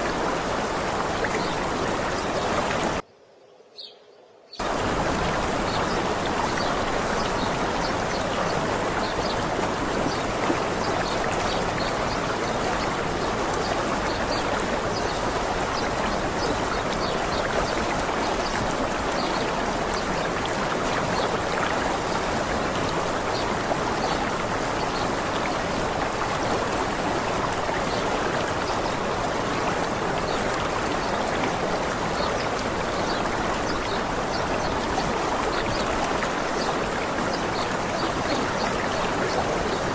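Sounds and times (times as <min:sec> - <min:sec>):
waterfall rushing: 0:00.0 - 0:03.0, 0:04.6 - 0:39.9.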